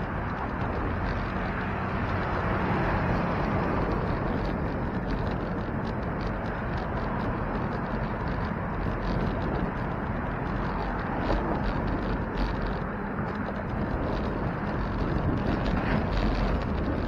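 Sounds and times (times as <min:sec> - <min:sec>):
bicycle tyres rolling: 0:00.0 - 0:17.0.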